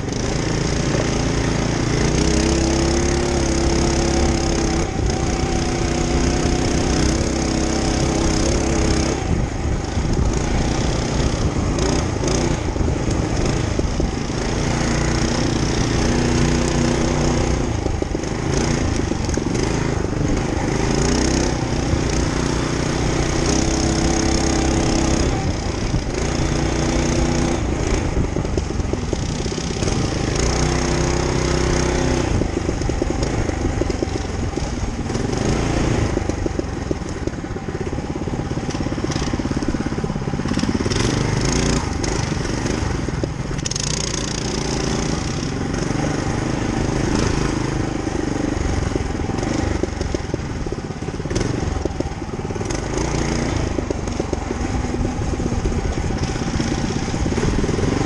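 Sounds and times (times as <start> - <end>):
mini bike engine revving: 0.0 - 58.0.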